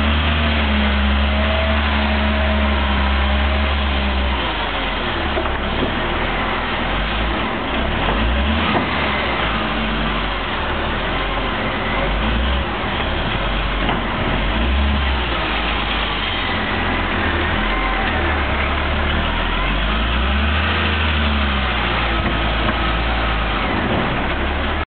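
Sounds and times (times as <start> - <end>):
wheel loader diesel engine: 0.0 - 24.9.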